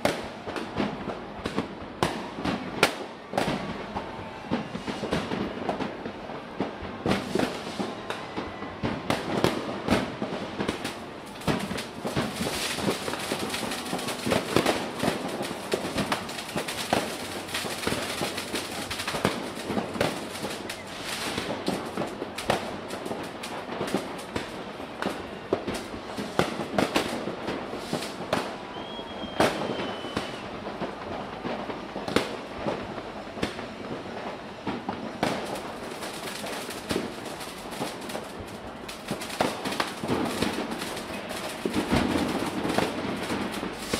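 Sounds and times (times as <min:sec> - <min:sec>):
firework whistle: 0:00.0 - 0:43.9
fireworks bangs and crackles: 0:00.0 - 0:43.9.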